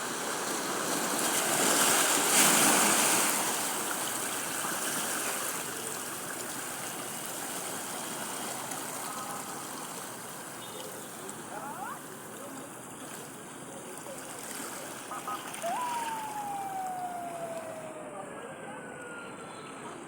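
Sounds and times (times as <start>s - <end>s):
sea waves breaking on beach: 0.0s - 18.4s.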